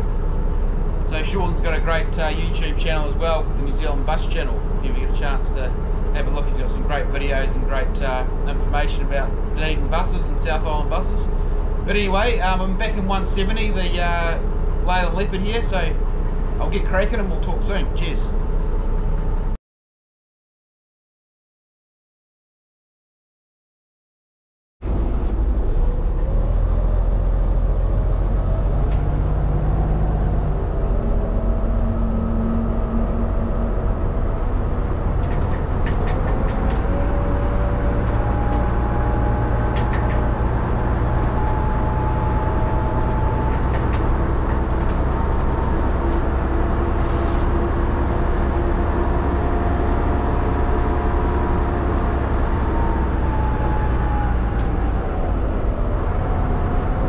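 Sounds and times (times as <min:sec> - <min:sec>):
bus diesel engine running: 0:00.0 - 0:19.6, 0:24.8 - 0:57.0.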